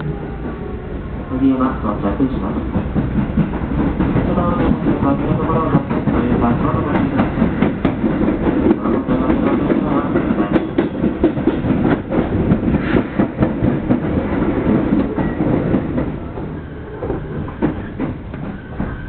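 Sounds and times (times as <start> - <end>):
passing train rumble: 0.0 - 19.0
train running: 0.0 - 19.0.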